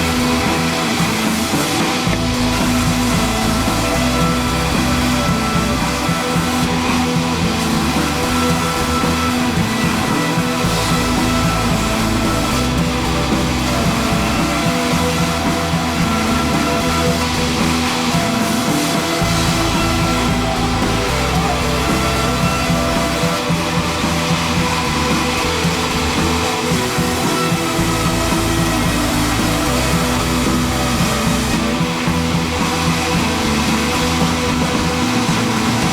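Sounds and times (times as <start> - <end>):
background music: 0.0 - 35.9.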